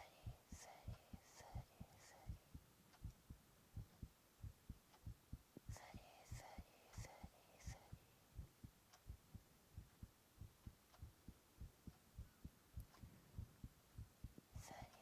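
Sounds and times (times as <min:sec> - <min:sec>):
faint heartbeat thumps: 0:00.0 - 0:15.0.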